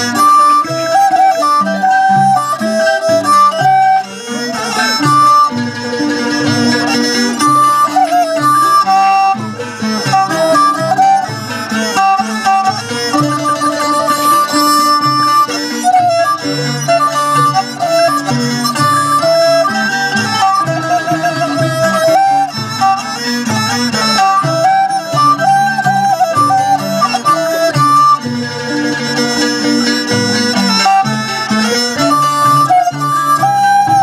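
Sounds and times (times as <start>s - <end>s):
bowed fiddle: 0.0s - 34.0s
plucked lutes: 0.0s - 34.0s.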